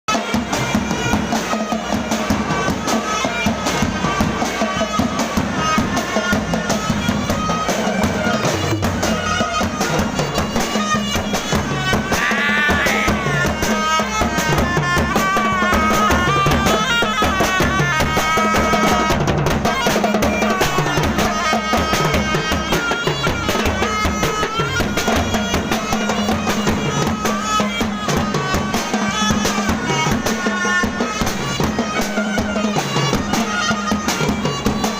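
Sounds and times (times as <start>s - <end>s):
drums: 0.1s - 34.9s
reedy wind melody: 0.1s - 34.9s.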